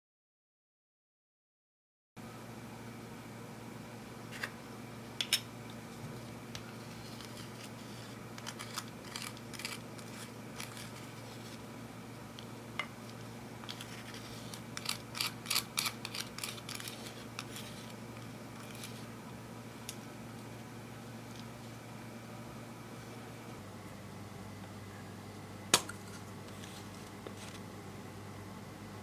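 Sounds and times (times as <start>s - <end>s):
steady low hum: 2.2s - 29.0s.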